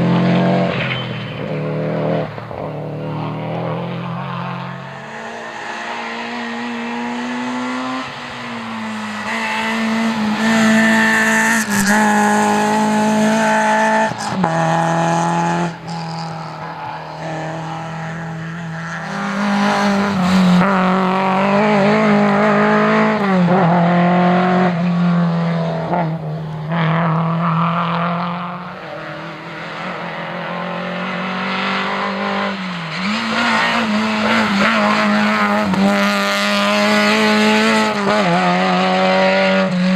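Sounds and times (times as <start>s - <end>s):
rally car engine at full throttle: 0.0s - 39.9s.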